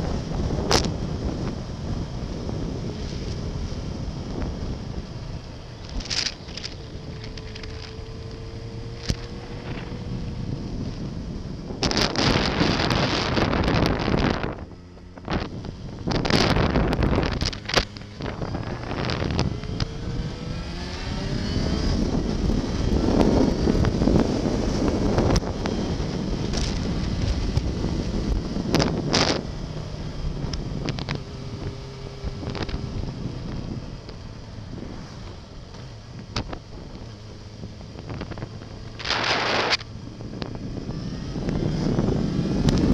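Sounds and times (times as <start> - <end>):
motorcycle engine accelerating: 0.0 - 42.9
wind rushing over microphone: 0.0 - 42.9.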